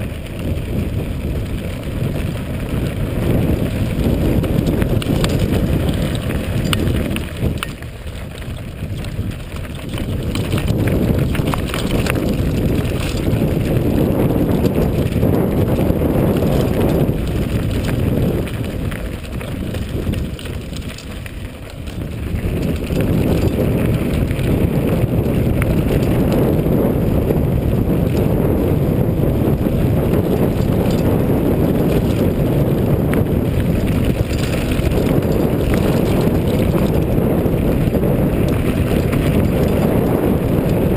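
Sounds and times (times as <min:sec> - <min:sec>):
bike rattling on stones: 0:00.0 - 0:40.9
tyres crunching on gravel: 0:00.0 - 0:40.9
wind rumble on microphone: 0:00.0 - 0:40.9.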